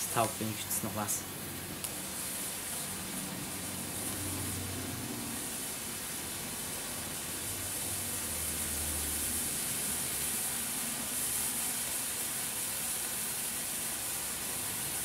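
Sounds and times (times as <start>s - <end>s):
flare burning with a hiss: 0.0s - 15.0s.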